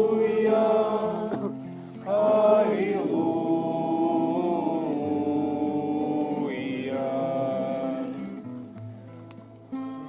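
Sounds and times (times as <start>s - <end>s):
group singing a hymn: 0.0s - 8.8s.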